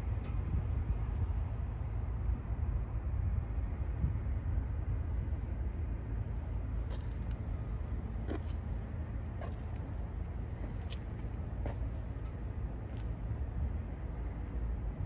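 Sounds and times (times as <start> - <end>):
engine idling with low rumble: 0.0 - 15.0.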